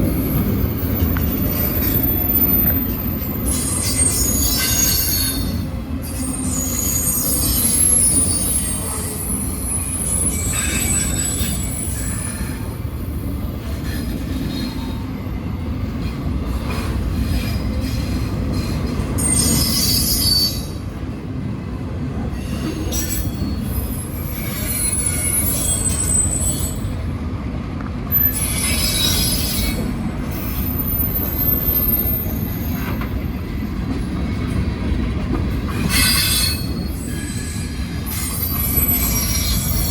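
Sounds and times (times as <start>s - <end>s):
train wheels squealing: 0.0s - 21.1s, 22.2s - 27.2s, 28.0s - 39.9s
train rumble: 0.0s - 39.9s.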